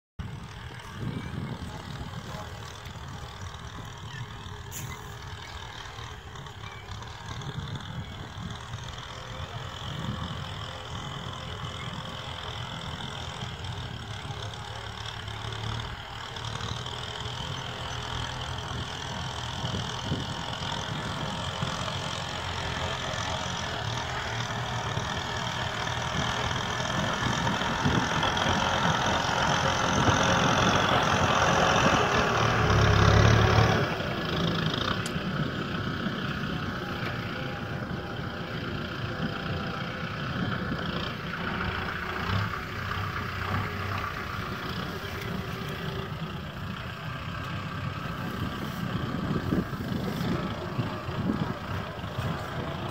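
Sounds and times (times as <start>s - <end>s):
tractor diesel engine running: 0.2s - 52.9s.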